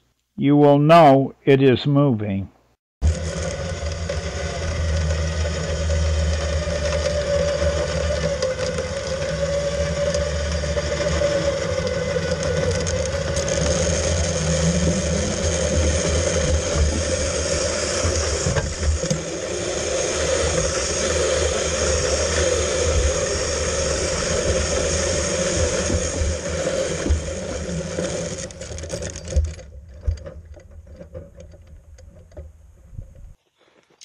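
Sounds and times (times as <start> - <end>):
cable carriage rolling rumble: 3.0 - 33.3.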